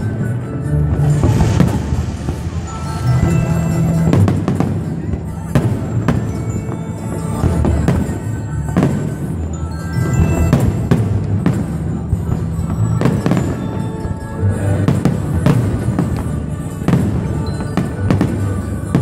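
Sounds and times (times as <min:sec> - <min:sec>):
music playing: 0:00.0 - 0:19.0.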